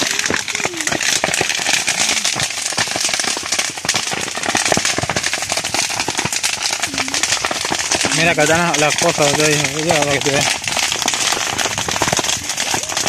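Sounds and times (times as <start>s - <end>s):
brush fire crackling and popping: 0.0s - 13.0s.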